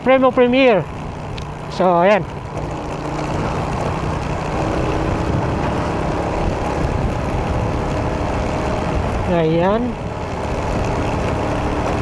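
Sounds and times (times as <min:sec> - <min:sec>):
motorcycle engine droning: 0:00.0 - 0:12.0
wind and road noise: 0:00.0 - 0:12.0.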